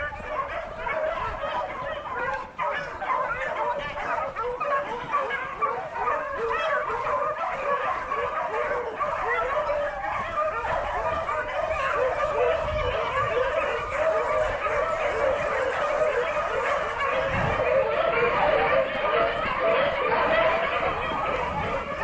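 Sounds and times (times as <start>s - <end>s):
pack of hounds baying: 0.0s - 22.0s.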